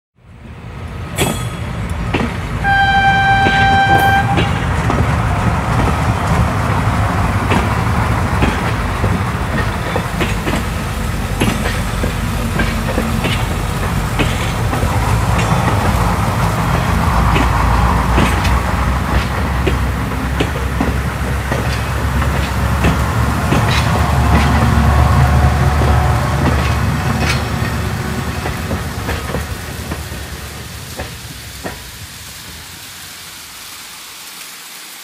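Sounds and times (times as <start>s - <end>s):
model trains rumbling on metal track: 0.4s - 32.9s
wheels clicking over rail joints: 0.8s - 32.8s.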